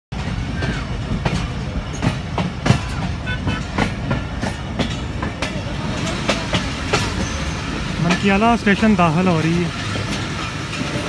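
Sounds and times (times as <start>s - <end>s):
train running gear rumble: 0.1s - 11.0s
wheels clicking over rail joints: 0.2s - 11.0s.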